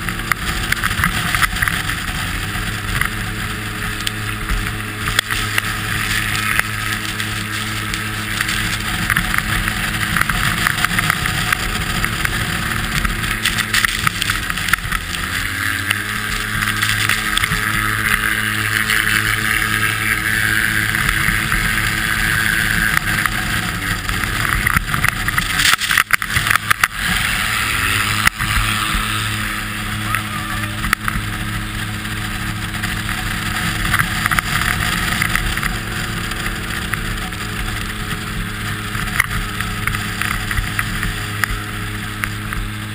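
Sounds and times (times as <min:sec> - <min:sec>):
engine running hard: 0:00.0 - 0:42.9.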